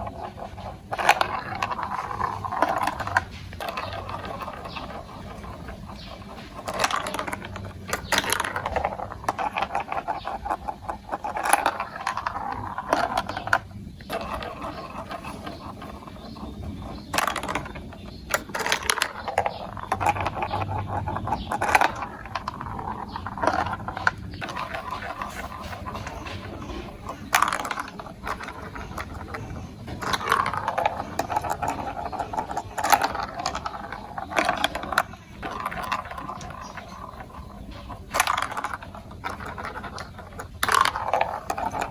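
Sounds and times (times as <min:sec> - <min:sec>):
marbles rolling and clattering: 0:00.0 - 0:41.9.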